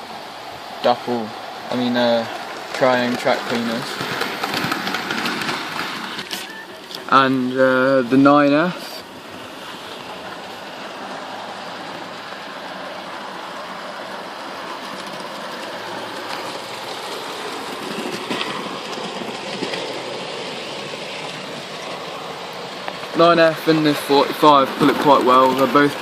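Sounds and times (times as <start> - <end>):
model train motors whirring: 0.0 - 26.0.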